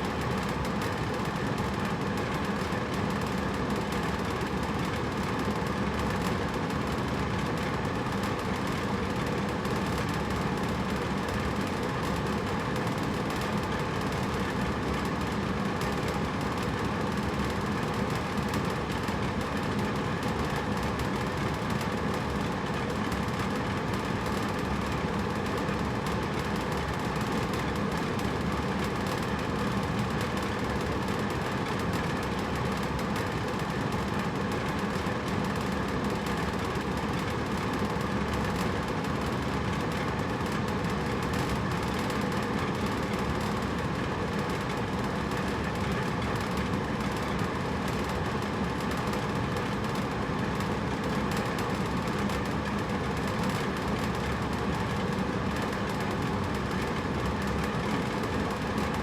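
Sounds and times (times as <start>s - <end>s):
air conditioner running: 0.0s - 59.0s.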